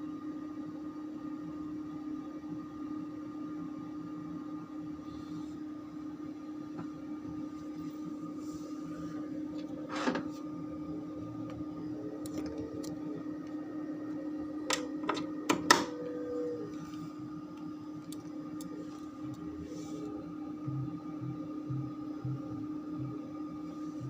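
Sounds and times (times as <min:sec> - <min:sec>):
amplifier electrical hum: 0:00.0 - 0:24.0.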